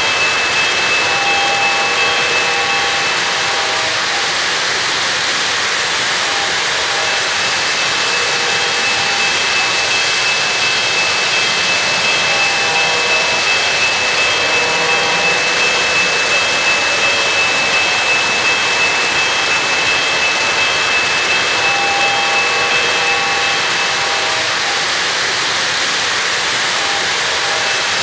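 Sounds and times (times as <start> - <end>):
model train wheels rolling on track: 0.0 - 28.0
thin steady whine: 0.0 - 28.0.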